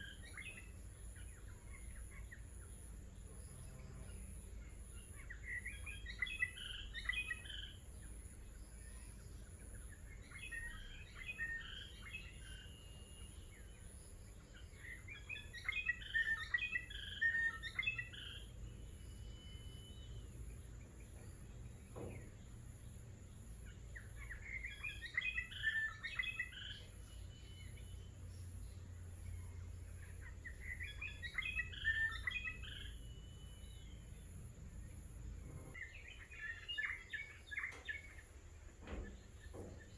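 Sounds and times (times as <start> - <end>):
songbird warbling: 4.2 - 39.9.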